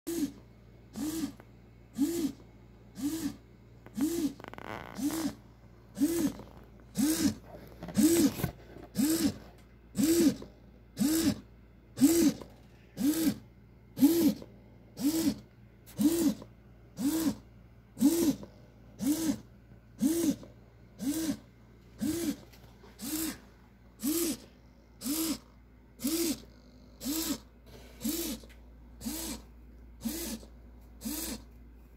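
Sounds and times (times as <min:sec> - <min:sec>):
servo motors whirring: 0:00.1 - 0:02.4, 0:03.0 - 0:13.4, 0:14.0 - 0:17.4, 0:18.0 - 0:31.5.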